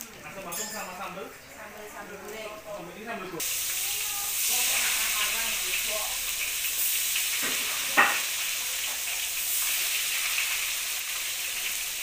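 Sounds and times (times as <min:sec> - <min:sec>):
deep-frying sizzle in oil: 0:00.0 - 0:12.0.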